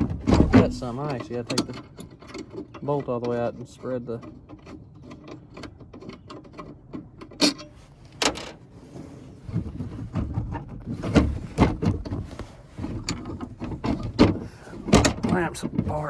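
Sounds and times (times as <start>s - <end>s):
metal tools knocking and rattling: 0.0s - 8.6s, 10.1s - 16.0s.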